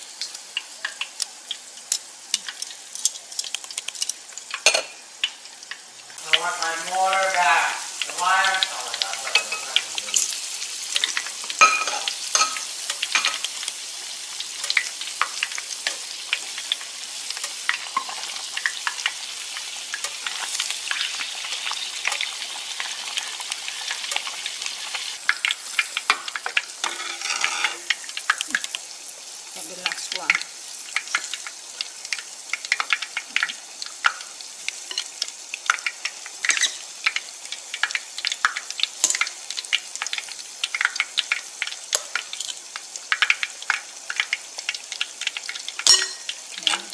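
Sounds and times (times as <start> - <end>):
batter cakes deep-frying in oil: 0.0 - 46.9.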